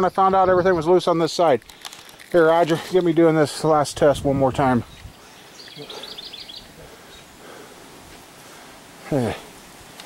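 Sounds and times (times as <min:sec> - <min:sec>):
faint outdoor background hiss: 0:00.0 - 0:10.0.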